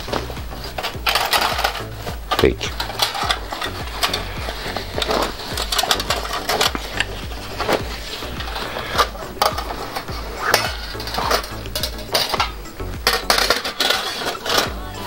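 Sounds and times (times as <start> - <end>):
cloth bag rustling: 0.0 - 15.0
metal panels clinking and scraping: 0.0 - 15.0.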